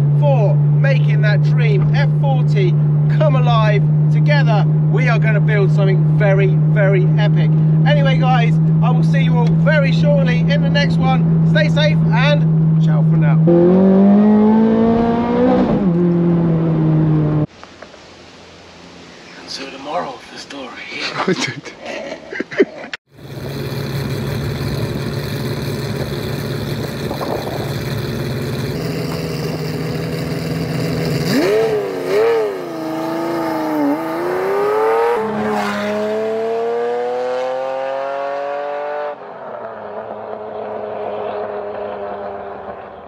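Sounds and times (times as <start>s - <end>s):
sports car engine revving: 2.6s - 17.5s, 23.1s - 43.0s.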